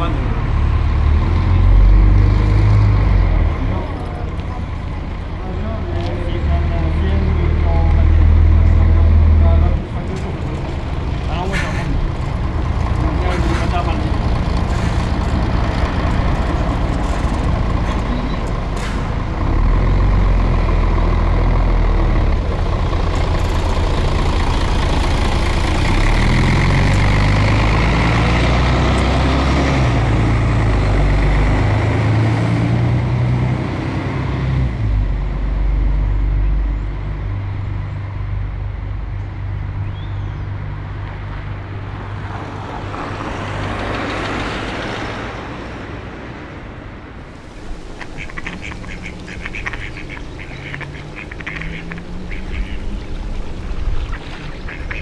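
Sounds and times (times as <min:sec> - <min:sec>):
heavy vehicle engine running: 0:00.0 - 0:55.0
low street hum: 0:00.0 - 0:55.0.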